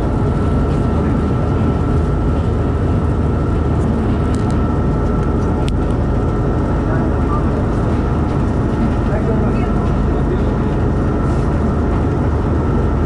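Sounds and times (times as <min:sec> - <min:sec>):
faint steady whine: 0:00.0 - 0:13.0
train wheels and engine rumbling: 0:00.0 - 0:13.0
wind buffeting microphone: 0:00.0 - 0:13.0.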